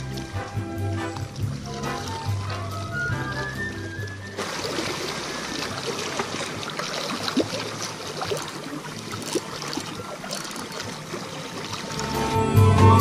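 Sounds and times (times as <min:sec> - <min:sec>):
small waves lapping on rocks: 0:00.0 - 0:12.2.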